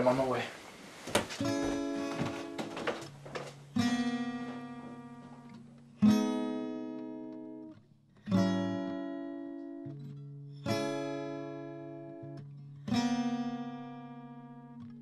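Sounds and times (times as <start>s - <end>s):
acoustic guitar strummed chords: 1.3s - 15.0s.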